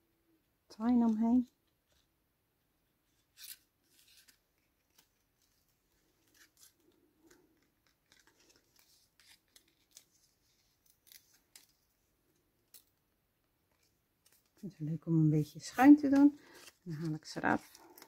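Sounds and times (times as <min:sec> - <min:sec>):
rustling of twine and ribbon: 0:03.0 - 0:18.0.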